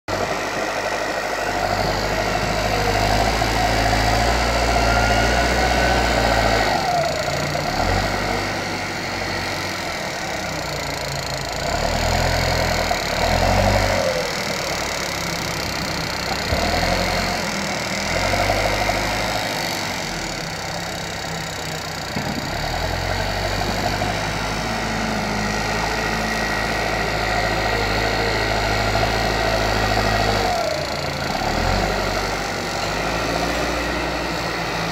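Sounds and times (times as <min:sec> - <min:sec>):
heavy diesel engine working: 0:00.1 - 0:34.9.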